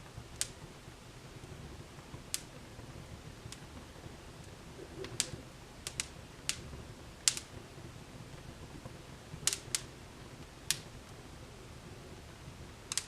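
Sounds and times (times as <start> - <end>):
low rush of flames: 0.0 - 13.0
wood fire crackling: 0.0 - 13.0.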